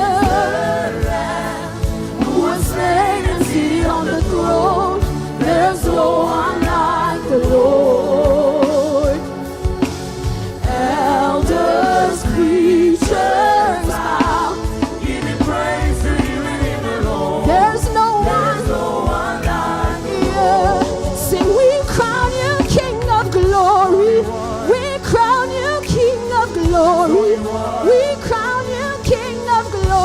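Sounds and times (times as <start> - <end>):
band with steady drum beat: 0.0 - 30.0
people singing: 0.0 - 30.0.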